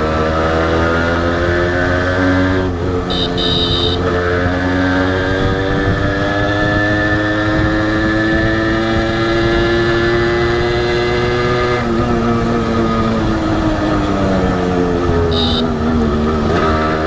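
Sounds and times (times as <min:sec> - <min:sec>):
two-stroke motorcycle engine: 0:00.0 - 0:17.0.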